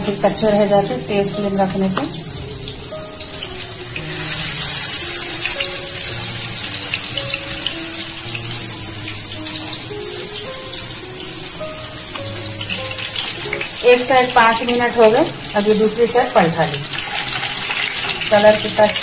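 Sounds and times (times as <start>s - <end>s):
patties sizzling in hot oil: 0.0s - 19.0s
soft background music: 0.0s - 19.0s.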